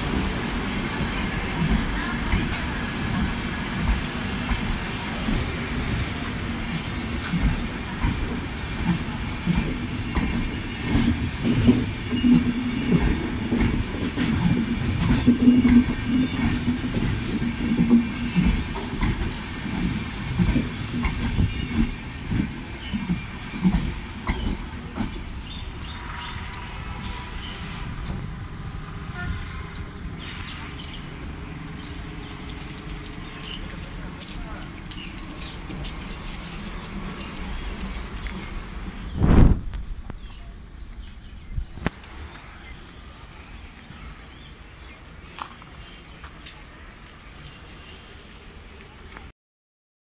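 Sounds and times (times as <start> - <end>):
train wheels rumbling on rails: 0.0 - 49.3.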